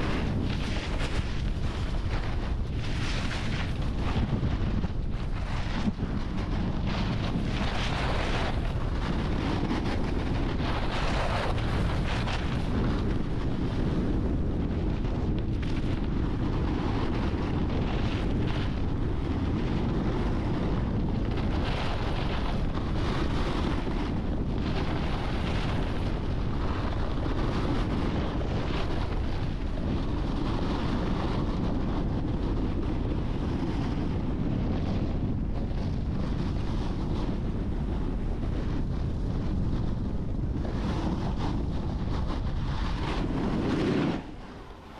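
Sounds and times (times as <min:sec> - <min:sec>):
snowboard scraping over snow: 0:00.0 - 0:44.9
wind buffeting microphone: 0:00.0 - 0:44.9.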